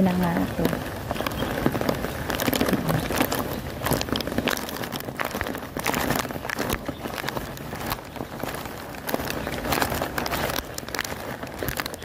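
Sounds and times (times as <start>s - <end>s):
heavy rain falling: 0.0s - 12.0s
raindrops tapping nearby: 0.0s - 12.0s.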